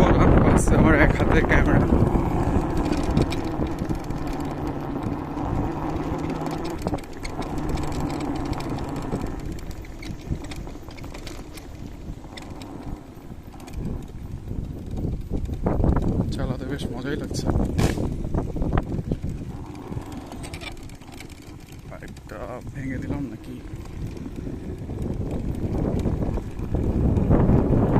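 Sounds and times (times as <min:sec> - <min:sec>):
electric scooter riding rumble: 0:00.0 - 0:27.9
low steady hum: 0:00.0 - 0:27.9.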